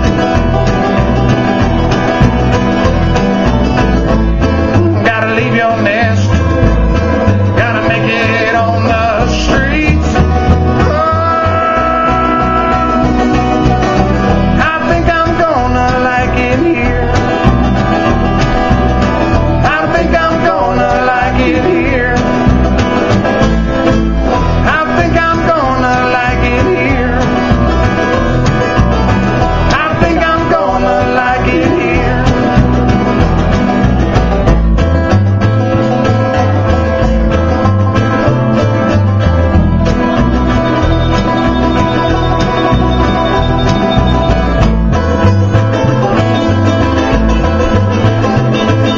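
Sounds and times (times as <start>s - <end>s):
acoustic guitar strumming: 0.0s - 48.9s
banjo picking: 0.0s - 48.9s.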